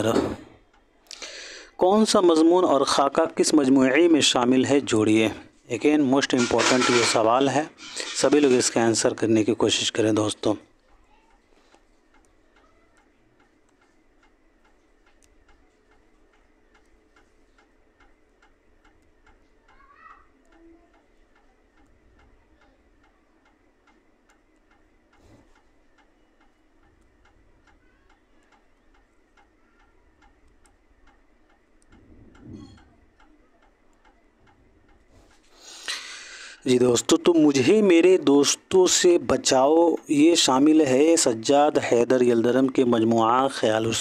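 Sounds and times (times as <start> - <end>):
faint clock ticking: 0.0 - 44.0.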